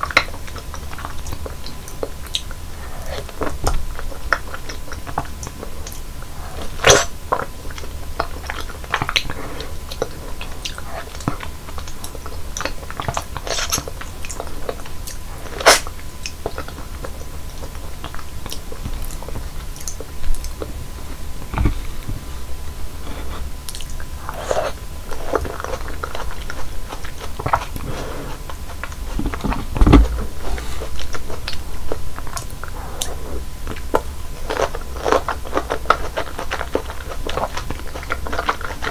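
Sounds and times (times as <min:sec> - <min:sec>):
biting and chewing fruit: 0:00.0 - 0:38.9.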